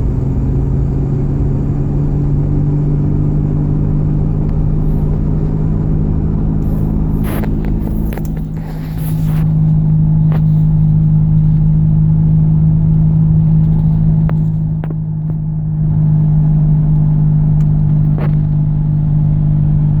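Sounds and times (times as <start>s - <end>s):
car droning hum: 0.0s - 20.0s.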